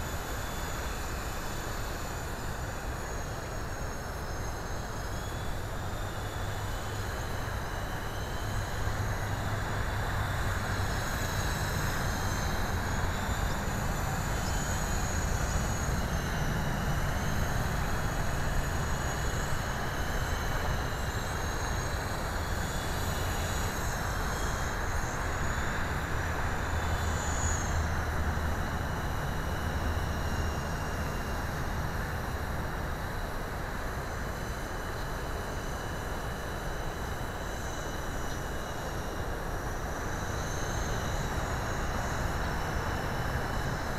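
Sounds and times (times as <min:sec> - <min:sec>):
helicopter rotor hum: 0:00.0 - 0:43.9
high motor whine: 0:00.0 - 0:43.9.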